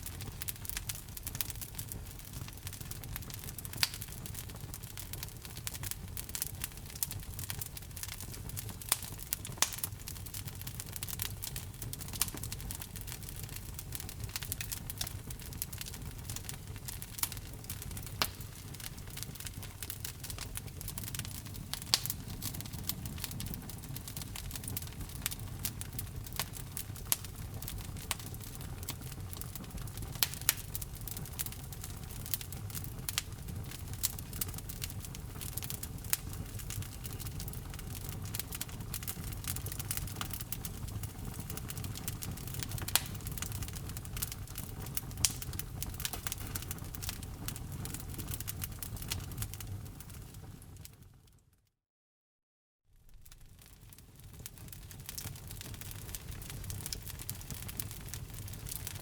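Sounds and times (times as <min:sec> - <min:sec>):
wood fire crackling: 0:00.0 - 0:51.0, 0:53.0 - 0:59.0.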